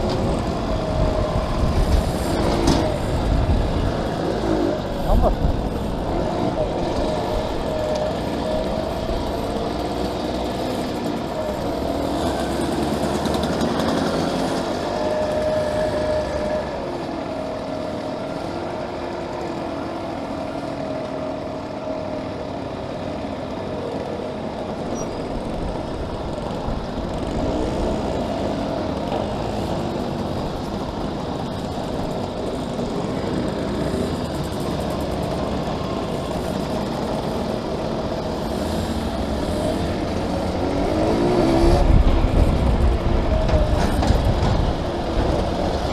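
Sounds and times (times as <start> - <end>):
small motorcycle engine running: 0.0 - 45.9.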